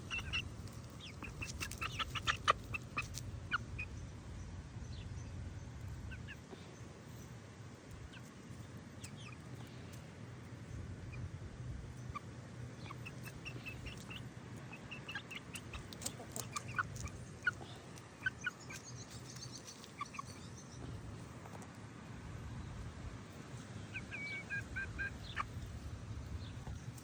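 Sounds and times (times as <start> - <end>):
birds chirping and clucking: 0.0 - 27.0.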